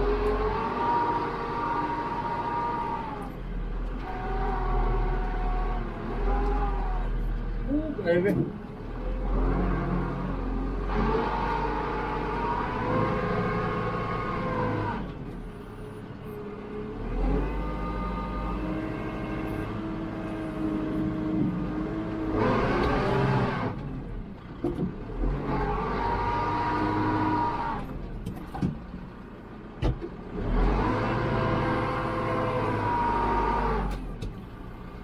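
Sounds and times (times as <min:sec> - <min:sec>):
tractor diesel engine revving: 0:00.0 - 0:28.2, 0:29.0 - 0:35.0.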